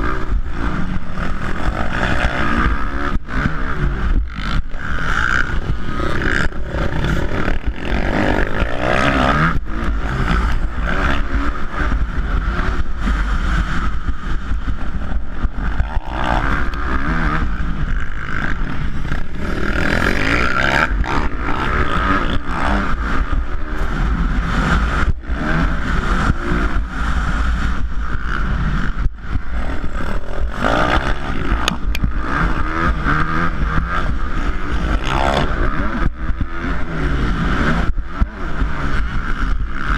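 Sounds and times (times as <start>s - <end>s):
motocross bikes revving: 0.0s - 39.9s
wind on microphone: 0.0s - 39.9s.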